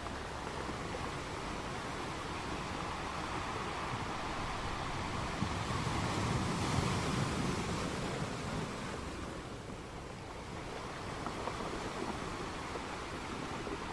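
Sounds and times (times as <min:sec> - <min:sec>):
sea waves washing on shore: 0:00.0 - 0:13.9.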